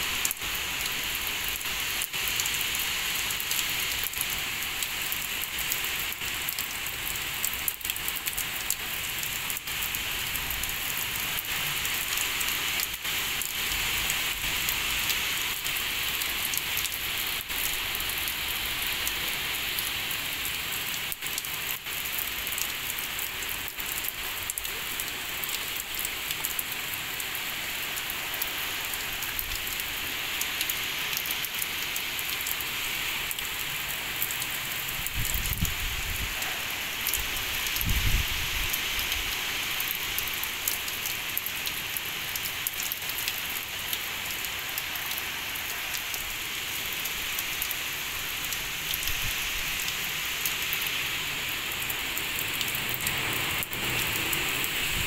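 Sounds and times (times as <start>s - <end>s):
heavy rain hissing: 0.0s - 55.0s
raindrops ticking close by: 0.0s - 55.0s.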